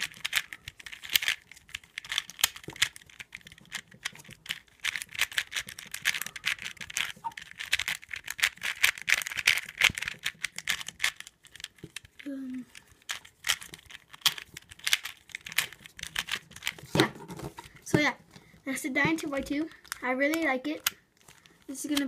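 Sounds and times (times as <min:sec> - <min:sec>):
puzzle cube plastic clicks: 0:00.0 - 0:18.4, 0:19.0 - 0:22.0.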